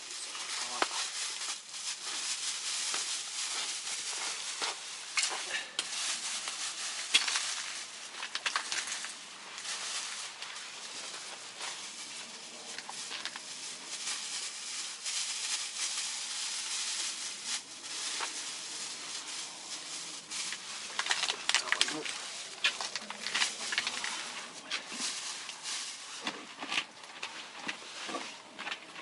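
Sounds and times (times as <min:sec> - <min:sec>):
hands rustling: 0:00.0 - 0:27.4.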